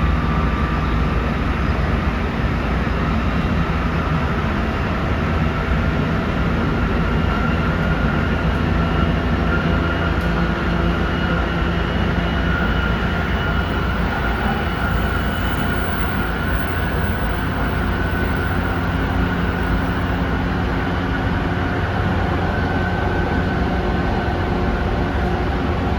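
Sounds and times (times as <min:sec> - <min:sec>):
train wheels rumbling on rails: 0:00.0 - 0:25.9
faint steady whine: 0:00.4 - 0:25.9.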